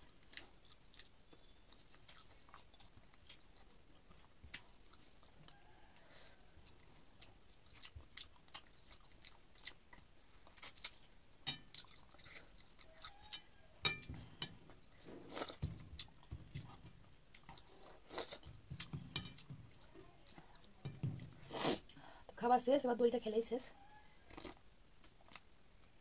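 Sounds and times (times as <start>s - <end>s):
person chewing food: 0.0s - 22.0s, 24.2s - 26.0s.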